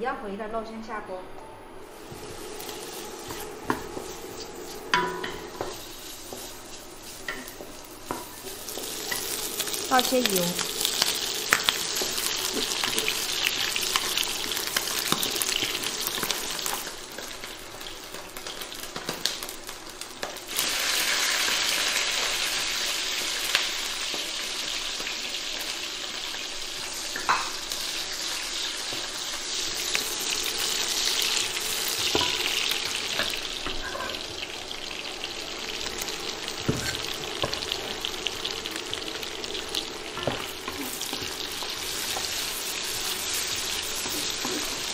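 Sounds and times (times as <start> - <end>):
meat sizzling in hot oil: 1.9 - 44.9.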